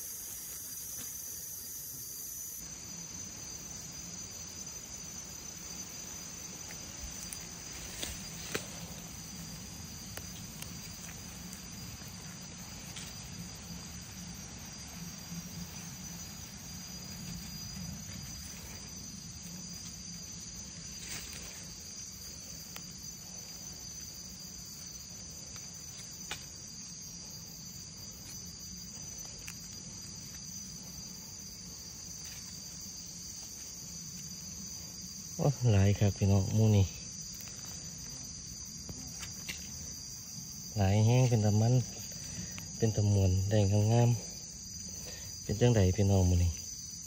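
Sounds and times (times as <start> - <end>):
chorus of insects: 0.0 - 47.0.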